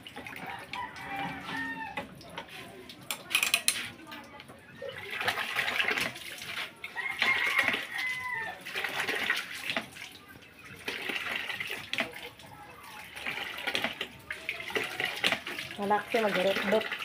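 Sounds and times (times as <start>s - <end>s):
water splashing and dripping: 0.0s - 17.0s.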